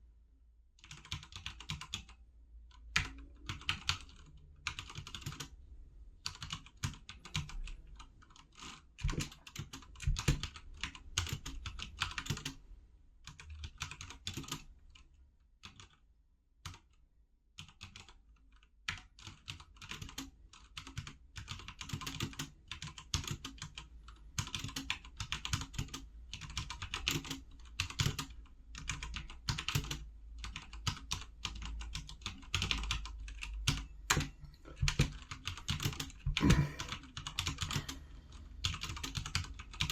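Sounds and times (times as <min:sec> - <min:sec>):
mechanical keyboard typing: 0:00.8 - 0:02.2, 0:02.9 - 0:05.5, 0:06.3 - 0:12.6, 0:13.3 - 0:14.7, 0:17.6 - 0:18.2, 0:18.9 - 0:39.9.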